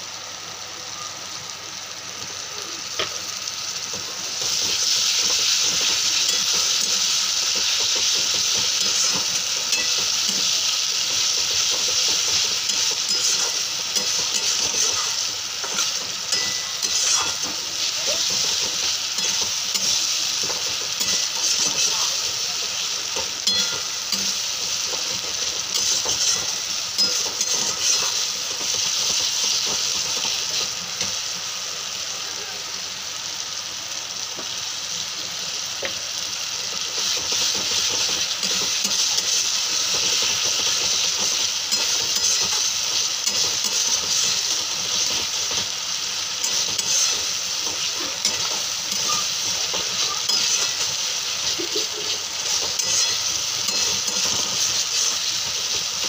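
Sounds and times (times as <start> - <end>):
food sizzling in hot oil: 0.0 - 56.0
spatula scraping a pan: 4.0 - 30.6, 37.0 - 45.7, 46.4 - 56.0.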